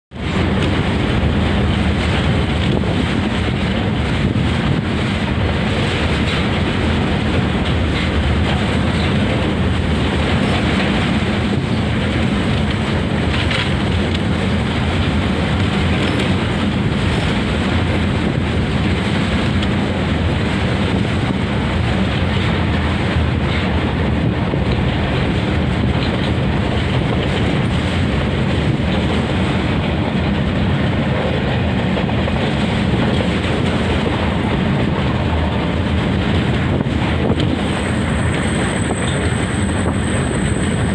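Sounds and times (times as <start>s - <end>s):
train wheels rumbling on track: 0.1s - 40.9s.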